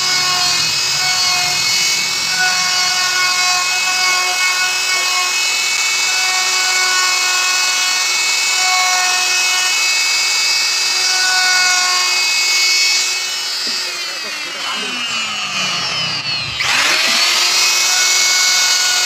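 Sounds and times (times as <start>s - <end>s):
router cutting fibreboard: 0.0s - 19.0s.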